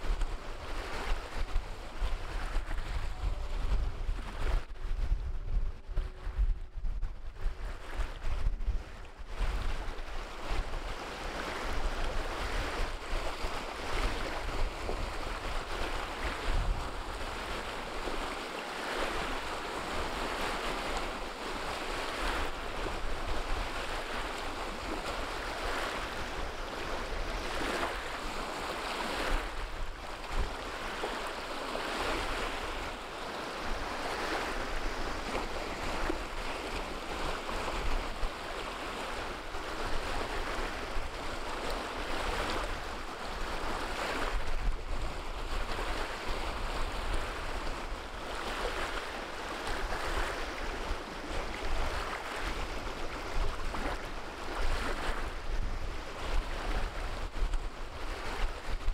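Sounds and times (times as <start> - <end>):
wind rumbling on microphone: 0.0 - 58.9
waves breaking on pebble shore: 9.4 - 57.1.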